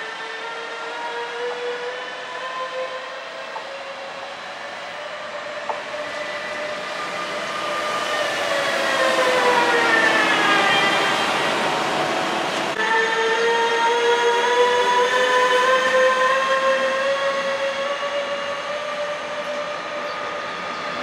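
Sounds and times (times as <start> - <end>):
rail and wheel noise: 0.0 - 21.0.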